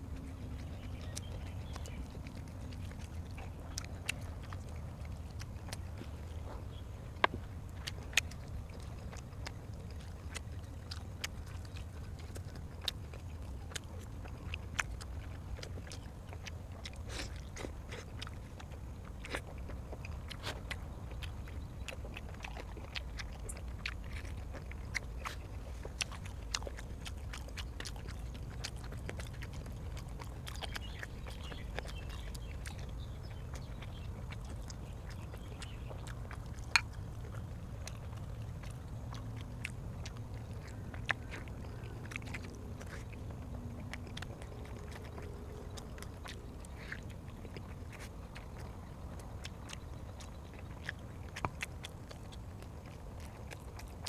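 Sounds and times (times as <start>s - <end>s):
person chewing food: 0.0s - 54.0s
steady low hum: 0.0s - 54.0s.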